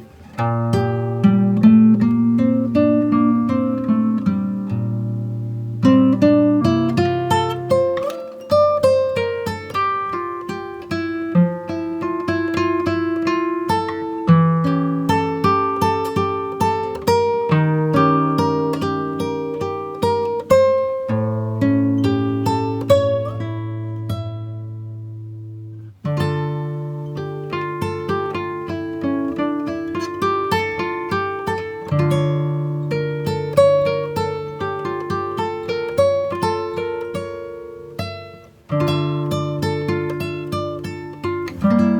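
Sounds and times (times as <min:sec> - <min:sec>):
fingerpicked acoustic guitar: 0:00.0 - 0:41.9.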